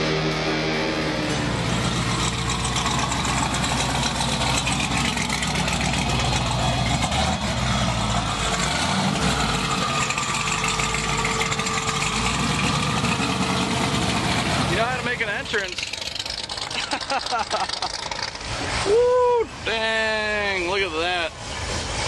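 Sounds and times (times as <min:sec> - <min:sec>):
car engine idling: 0:01.1 - 0:22.0.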